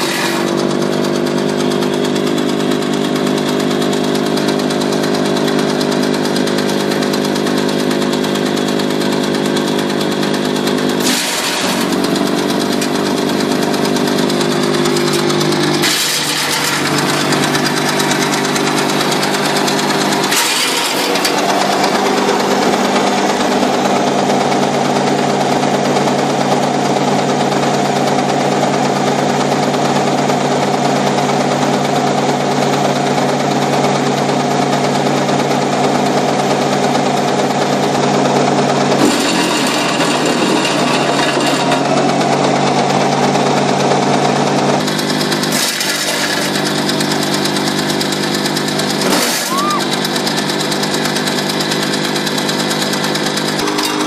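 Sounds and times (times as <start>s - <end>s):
wood chipper humming and whirring: 0.0s - 54.0s.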